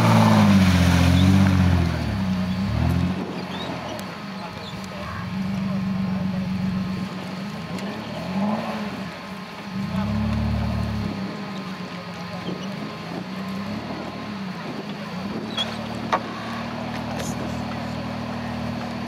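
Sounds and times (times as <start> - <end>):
buggy engine running and revving: 0.0 - 19.0.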